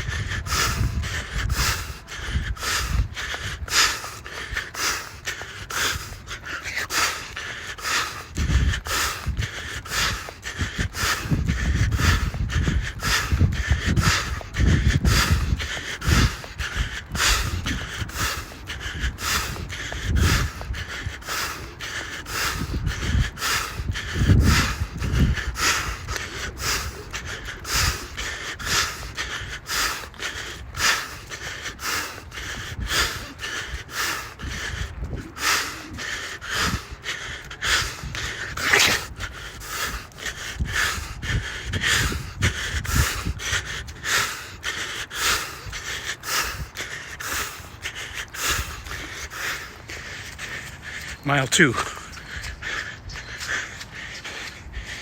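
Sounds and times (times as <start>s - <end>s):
person panting heavily: 0.0s - 55.0s.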